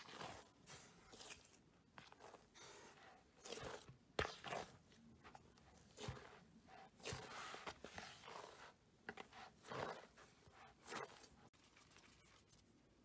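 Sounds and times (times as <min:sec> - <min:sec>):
hand kneading sticky dough: 0:00.0 - 0:13.0.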